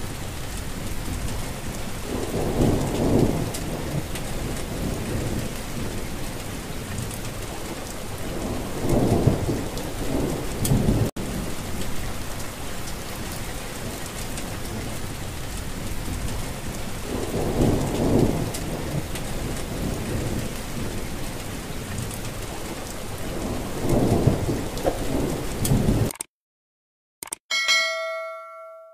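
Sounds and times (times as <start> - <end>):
steady rain: 0.0 - 26.1
thunder rumbling: 0.0 - 26.1.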